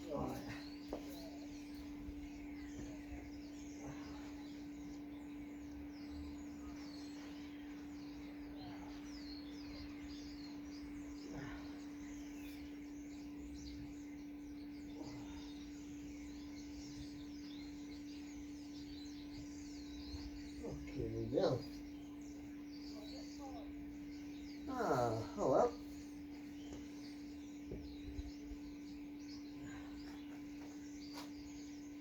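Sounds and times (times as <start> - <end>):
birds chirping: 0.0 - 32.0
steady low hum: 0.0 - 32.0.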